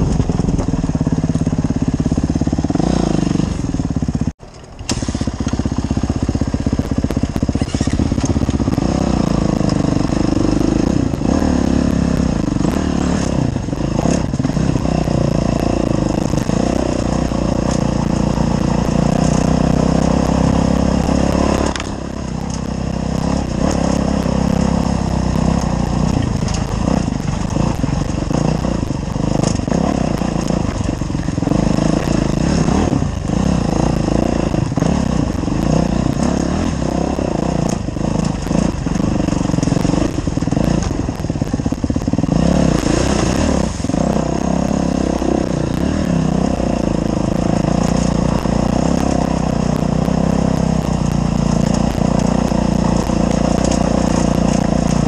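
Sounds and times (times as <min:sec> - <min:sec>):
bike knocking and rattling: 0:00.0 - 0:55.0
dirt bike engine revving: 0:00.0 - 0:55.0.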